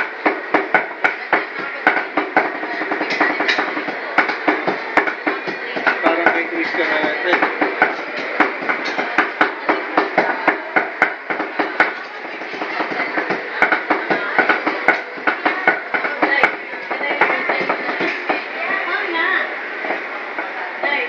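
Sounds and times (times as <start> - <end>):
cleavers chopping on board: 0.2 - 18.3.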